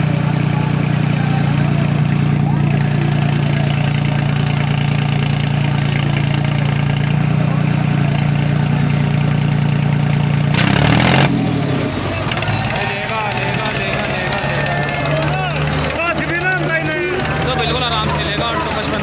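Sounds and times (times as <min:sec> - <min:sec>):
loud rush of noise: 0:00.0 - 0:19.0
tractor diesel engines straining: 0:00.0 - 0:19.0.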